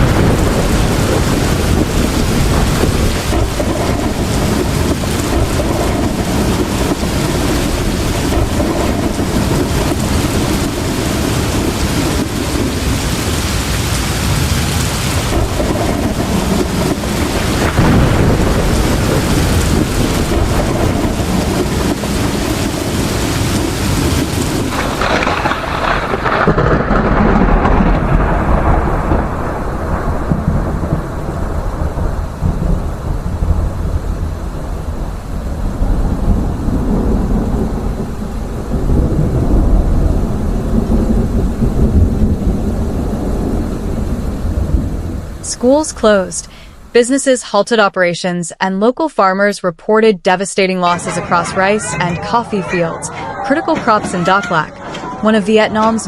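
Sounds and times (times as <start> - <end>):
deep rumble: 0.0 - 45.5
wind: 0.0 - 47.0
heavy rain: 0.0 - 47.3, 50.8 - 56.0.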